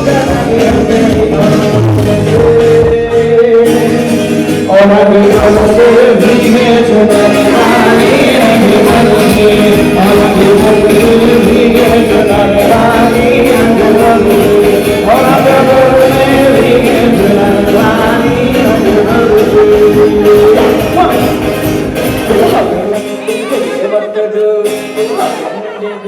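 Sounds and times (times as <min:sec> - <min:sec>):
person singing long notes: 0:00.0 - 0:21.3.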